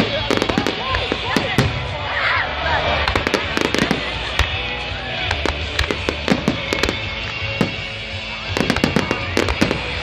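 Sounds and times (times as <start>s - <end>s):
fireworks bursting with sharp bangs: 0.0s - 2.2s, 2.8s - 10.0s
music playing: 0.0s - 10.0s.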